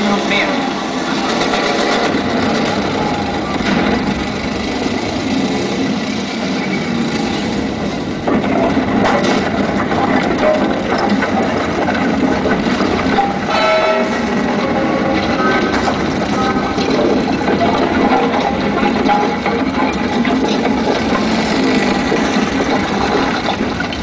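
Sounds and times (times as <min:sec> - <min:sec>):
heavy engines rumbling over loudspeakers: 0:00.0 - 0:24.0.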